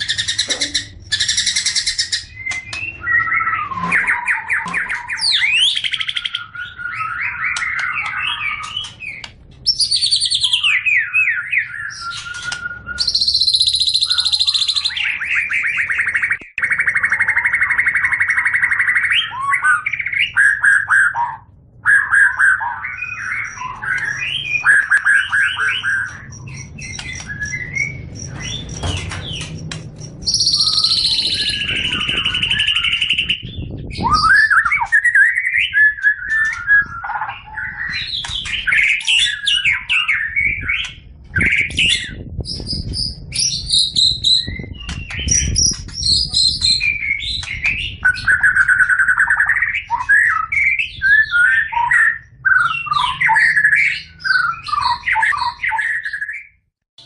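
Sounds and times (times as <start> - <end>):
bird singing whistles and trills: 0.0 - 56.6.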